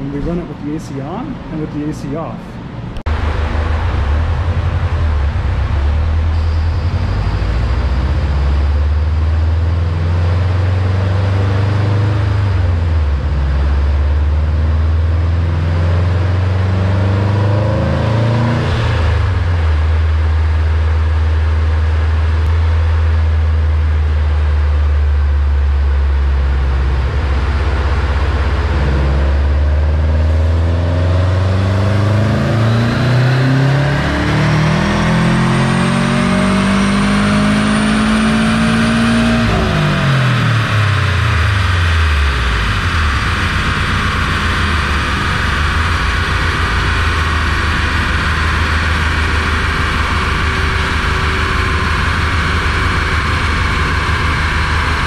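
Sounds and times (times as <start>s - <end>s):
car engine revving on a dyno: 3.0s - 55.0s.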